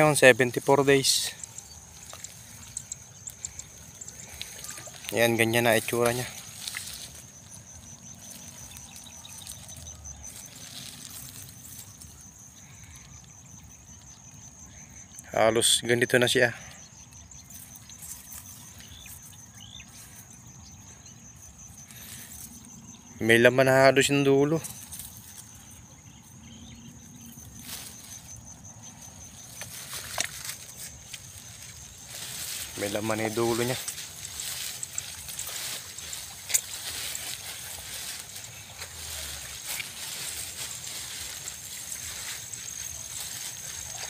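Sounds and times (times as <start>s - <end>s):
rice plants rustling: 0.0s - 13.1s, 17.4s - 22.8s, 24.6s - 44.0s
high-pitched insect trill: 0.0s - 44.0s.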